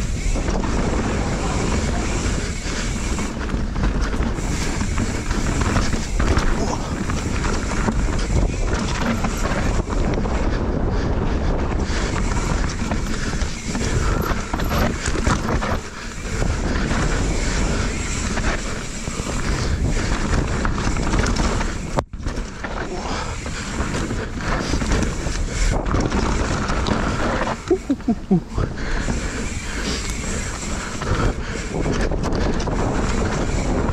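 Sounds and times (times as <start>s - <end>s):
bike clattering over roots: 0.0s - 33.9s
tyres rumbling on dirt: 0.0s - 33.9s
wind buffeting microphone: 0.0s - 33.9s.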